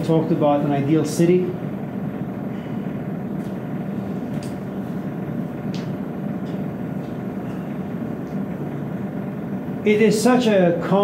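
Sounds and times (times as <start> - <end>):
low ventilation rumble: 0.0 - 11.0.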